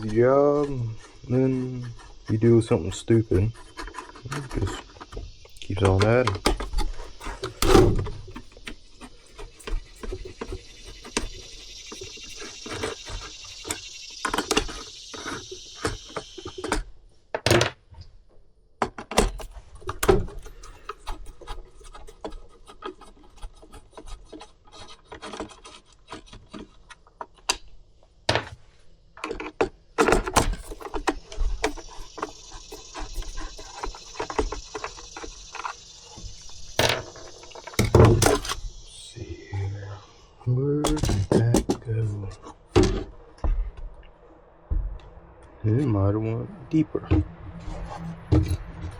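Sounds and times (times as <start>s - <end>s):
plastic parts clicking and knocking: 0.0s - 18.1s, 18.8s - 27.7s, 29.2s - 38.8s, 40.8s - 43.6s.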